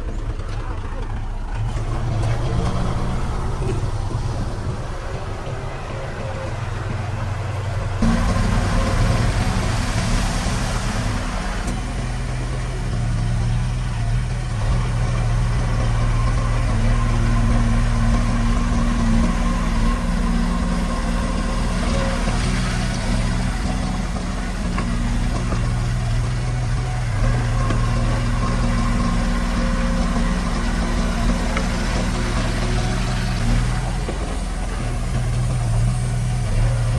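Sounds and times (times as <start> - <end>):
diesel engine of heavy machinery: 0.0 - 36.9.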